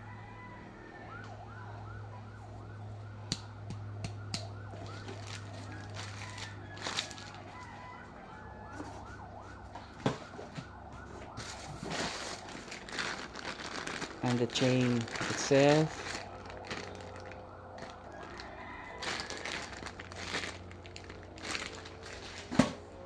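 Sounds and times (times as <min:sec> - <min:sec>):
siren yelping: 0:00.0 - 0:23.0.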